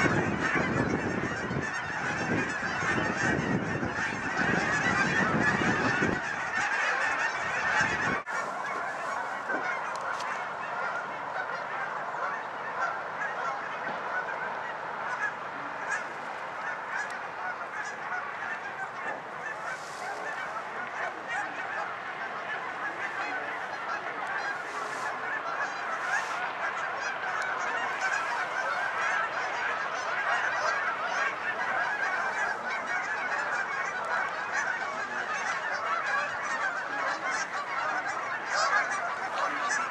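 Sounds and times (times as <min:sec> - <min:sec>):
geese honking: 0:00.0 - 0:39.9
wind rumbling on microphone: 0:00.0 - 0:39.9.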